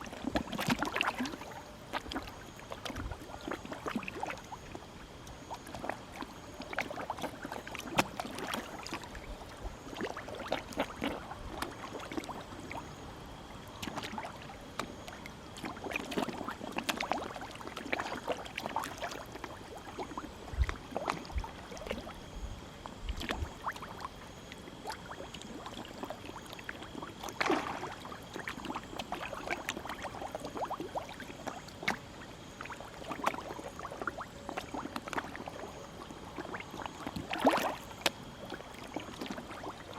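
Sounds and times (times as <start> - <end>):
fish splashing and slurping: 0.0 - 39.9.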